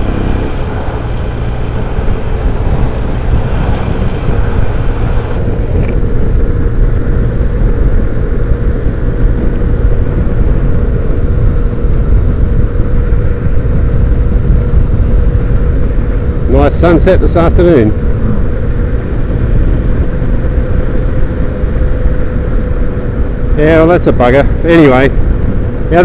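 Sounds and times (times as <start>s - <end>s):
motorcycle engine: 0.0s - 26.0s
wind rumble on microphone: 0.0s - 26.0s.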